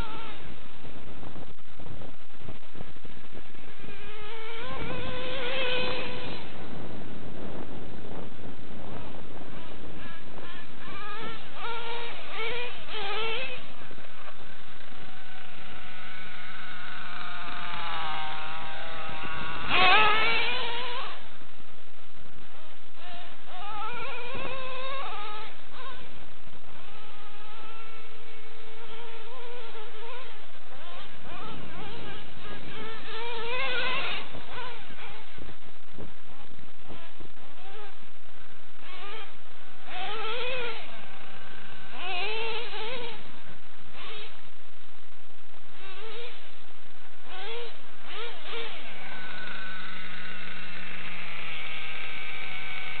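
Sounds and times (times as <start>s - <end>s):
nitro engine buzzing at high revs: 0.0s - 53.0s.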